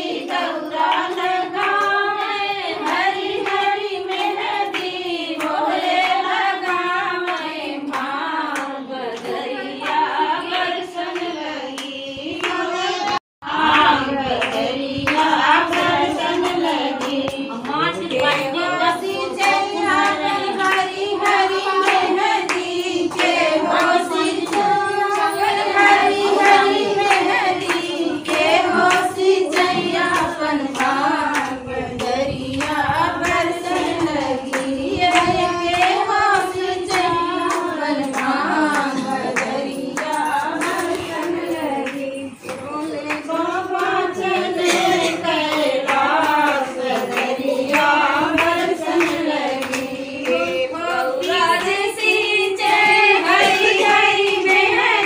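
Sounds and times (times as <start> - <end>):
rhythmic hand clapping: 0.0 - 55.0
women singing folk song: 0.0 - 55.0.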